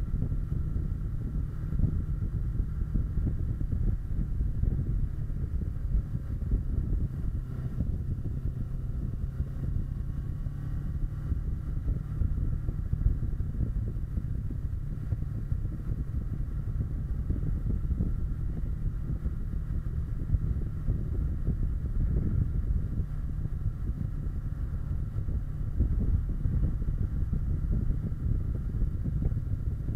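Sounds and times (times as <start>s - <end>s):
motorcycle engine cruising: 0.0s - 29.9s
wind on microphone: 0.0s - 29.9s.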